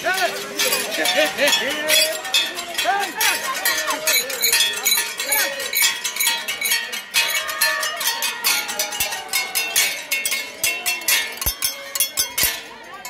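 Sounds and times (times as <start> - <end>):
crowd singing and chanting: 0.0 - 13.0
rhythmic metallic clinking: 0.0 - 13.0.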